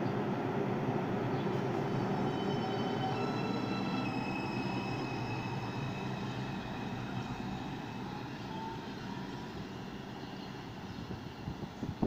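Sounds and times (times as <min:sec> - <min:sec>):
subway train pulling away: 0:00.0 - 0:12.0.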